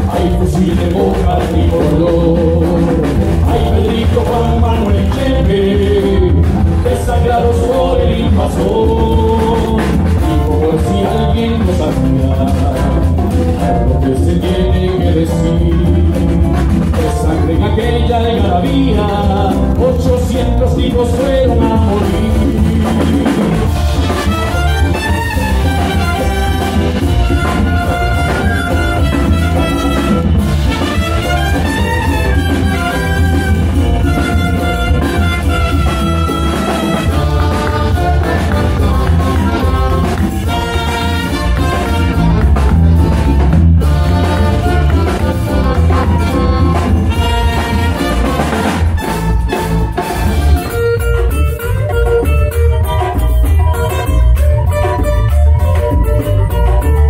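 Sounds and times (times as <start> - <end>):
live band playing folk dance music: 0.0 - 57.0.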